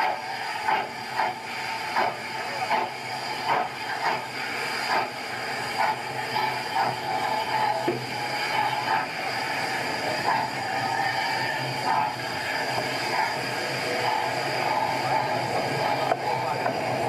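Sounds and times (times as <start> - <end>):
rail running noise: 0.0 - 17.0.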